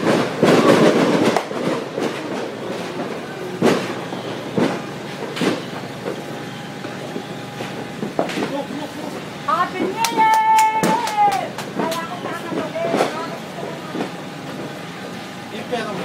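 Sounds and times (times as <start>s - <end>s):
fireworks crackling pops: 0.0s - 15.3s
firework bangs: 0.0s - 16.0s.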